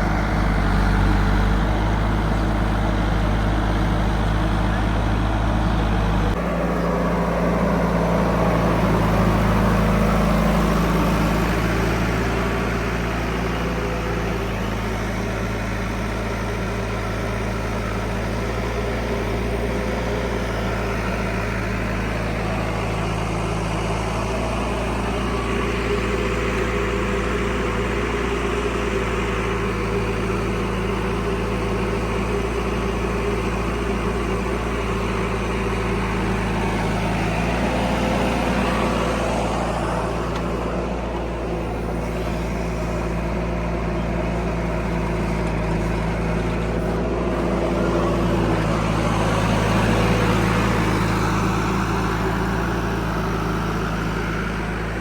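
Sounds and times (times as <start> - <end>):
diesel engine low rumble: 0.0 - 55.0.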